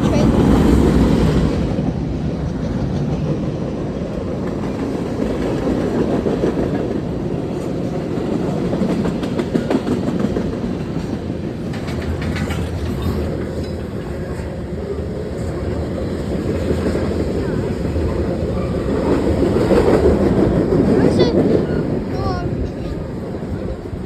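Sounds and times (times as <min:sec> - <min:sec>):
train wagons rumbling: 0:00.0 - 0:24.0.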